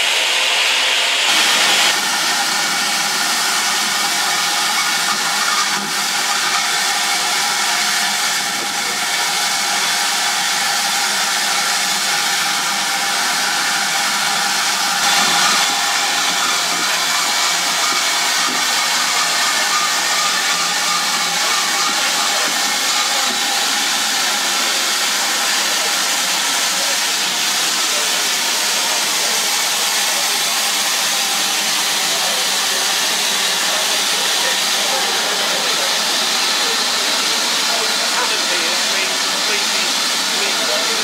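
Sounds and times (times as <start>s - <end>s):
steam hissing from locomotive: 0.0s - 41.0s.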